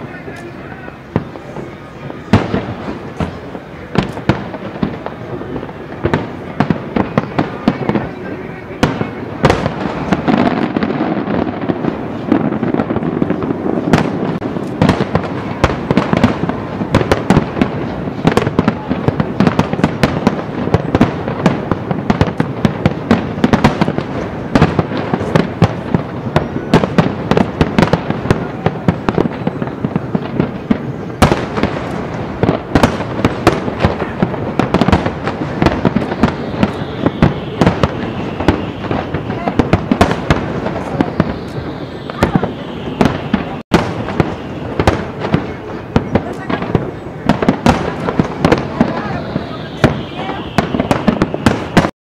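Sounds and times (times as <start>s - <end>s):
fireworks booming and crackling: 0.0s - 52.0s.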